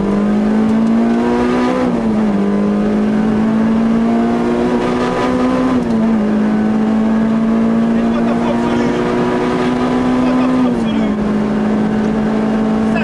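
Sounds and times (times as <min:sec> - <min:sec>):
car engine revving in cabin: 0:00.0 - 0:13.0.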